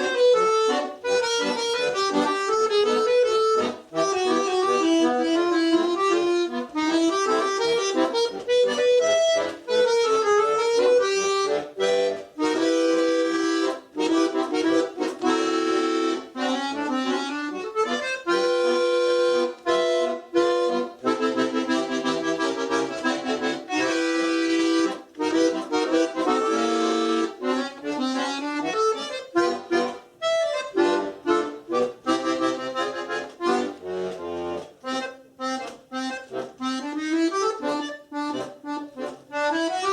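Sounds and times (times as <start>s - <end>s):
solo accordion melody: 0.0s - 39.9s.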